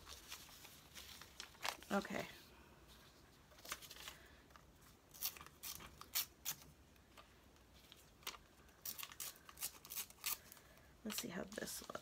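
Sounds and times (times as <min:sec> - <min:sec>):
paper cutouts rustling: 0:00.0 - 0:12.0.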